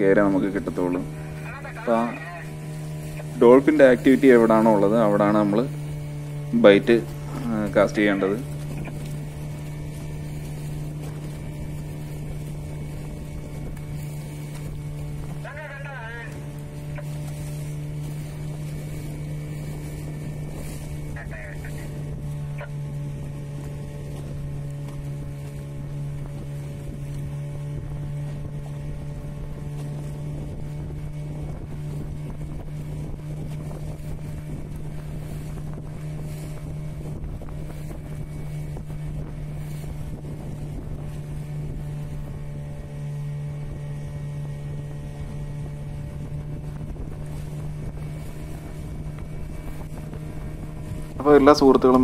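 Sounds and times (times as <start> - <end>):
boat engine running: 0.0 - 52.0
water noise: 0.0 - 52.0
wind: 0.0 - 52.0.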